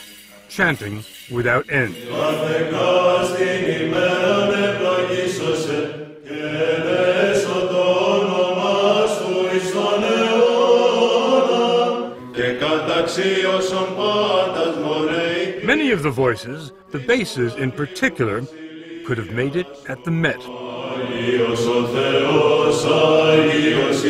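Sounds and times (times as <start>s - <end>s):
men chanting together: 1.9s - 24.0s.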